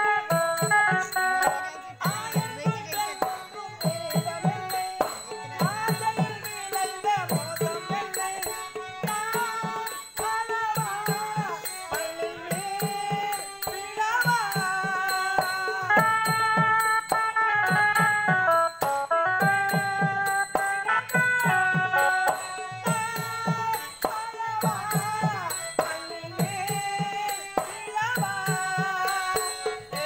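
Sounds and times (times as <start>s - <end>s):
person singing: 0.0s - 17.8s, 19.4s - 30.0s.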